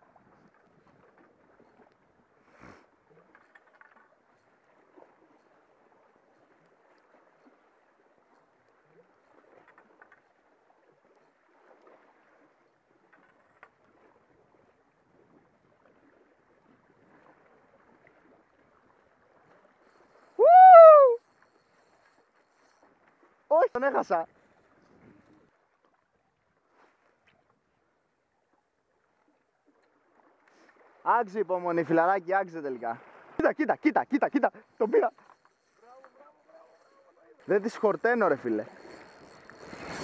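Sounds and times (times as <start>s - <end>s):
faint lapping of sea water: 0.0s - 40.0s.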